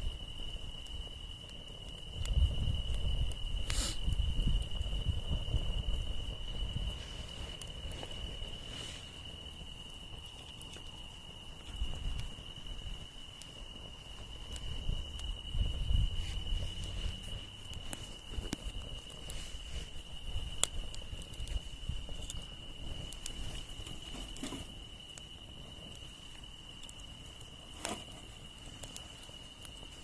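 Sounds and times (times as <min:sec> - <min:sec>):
campfire crackling and popping: 0:00.0 - 0:30.0
night insects chirring: 0:00.0 - 0:30.0.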